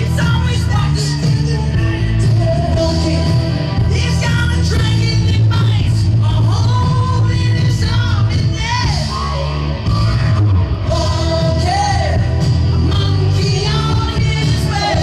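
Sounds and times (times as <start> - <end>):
karaoke backing track with bass: 0.0 - 15.0
man singing rock song: 0.0 - 15.0.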